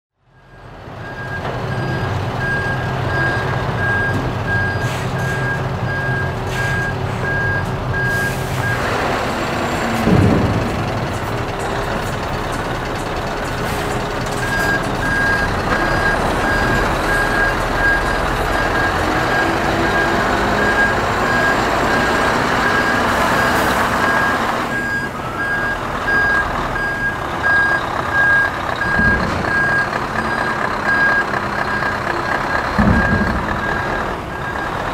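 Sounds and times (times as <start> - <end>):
diesel truck engine running: 0.3 - 34.9
reversing alarm beeping: 0.4 - 8.9, 13.4 - 34.9.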